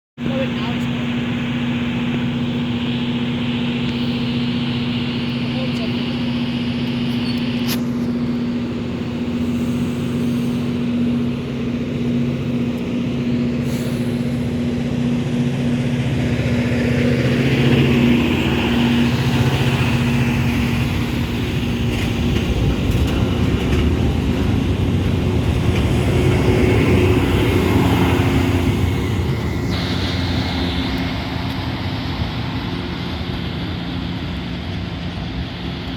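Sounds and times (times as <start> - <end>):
diesel train engines humming: 0.2 - 35.9.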